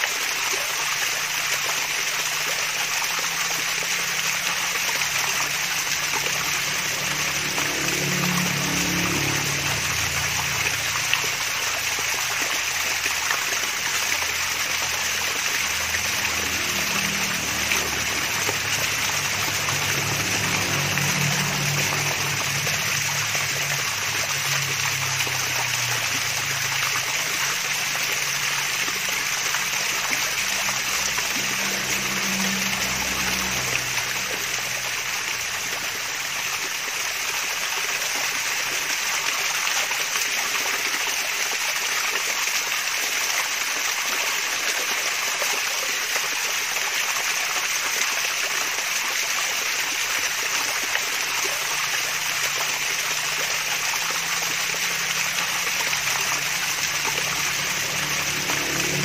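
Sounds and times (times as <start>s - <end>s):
low water gurgle: 0.0s - 59.0s
waterfall splashing: 0.0s - 59.0s.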